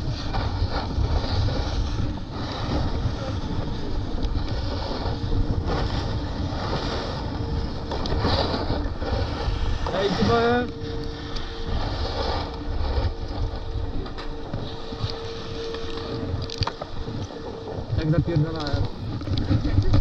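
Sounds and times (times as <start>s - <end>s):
snowboard scraping over snow: 0.0s - 20.0s
wind buffeting microphone: 0.0s - 20.0s.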